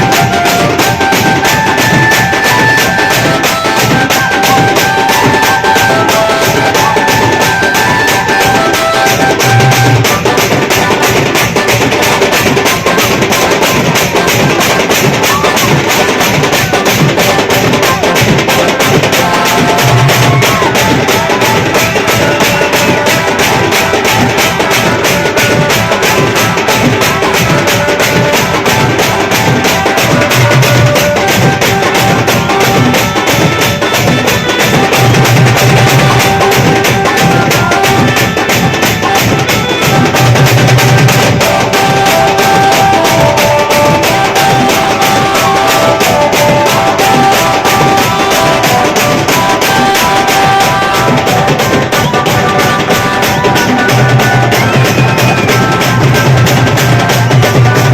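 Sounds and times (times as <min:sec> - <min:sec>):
band playing loud dance music: 0:00.0 - 0:57.9.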